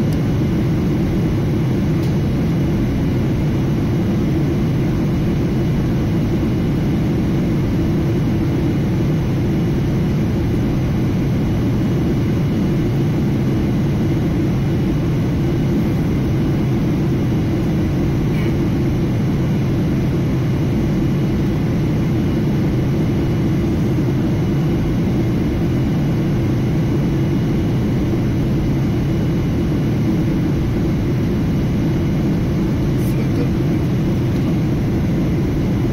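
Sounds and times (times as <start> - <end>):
airplane cabin rumble: 0.0 - 35.9.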